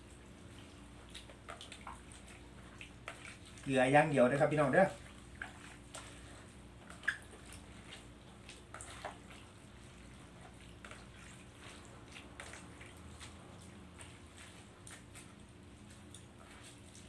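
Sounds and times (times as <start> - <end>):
hands squishing wet bamboo shoots: 0.0 - 17.0.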